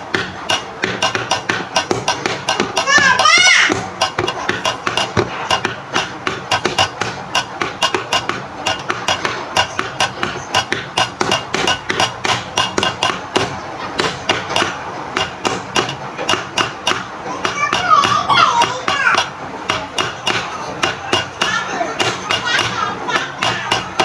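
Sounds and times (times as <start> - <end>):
rapid sharp knocking: 0.0 - 24.0.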